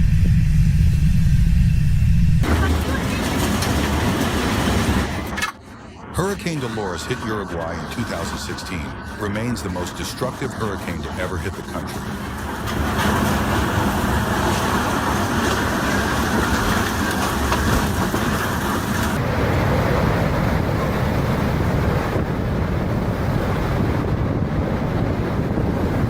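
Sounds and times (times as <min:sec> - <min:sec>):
storm wind buffeting microphone: 0:00.0 - 0:26.0.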